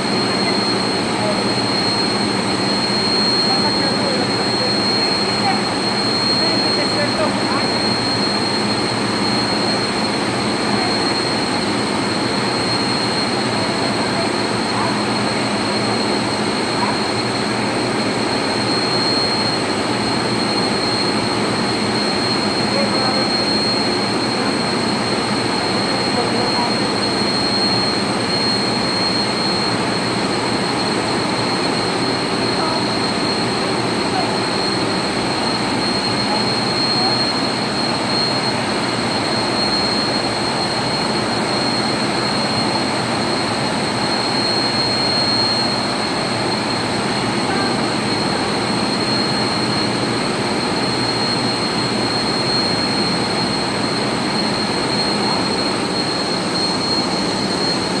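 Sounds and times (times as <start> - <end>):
chiller mechanical drone: 0.0 - 58.0
high-pitched whine: 0.0 - 58.0.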